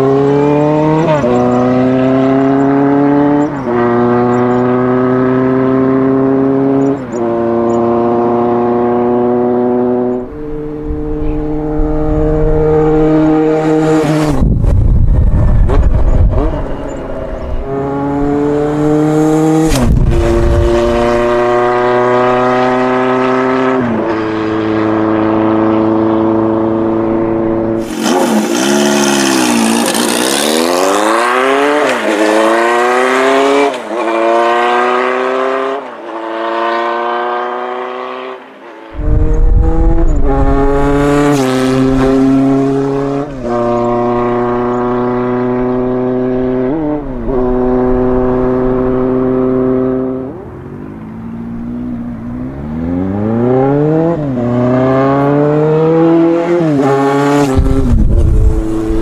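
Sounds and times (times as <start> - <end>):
motorcycle engine revving: 0.0 - 50.4, 51.0 - 59.0.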